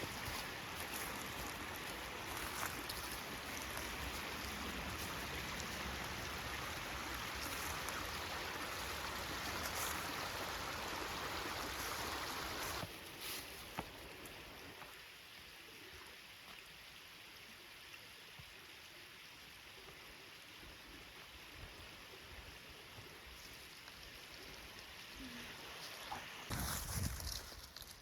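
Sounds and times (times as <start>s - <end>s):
creek water running: 0.0s - 28.0s.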